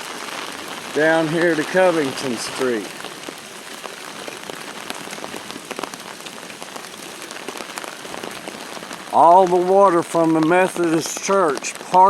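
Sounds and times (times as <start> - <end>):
rain on hard surfaces: 0.0 - 12.0.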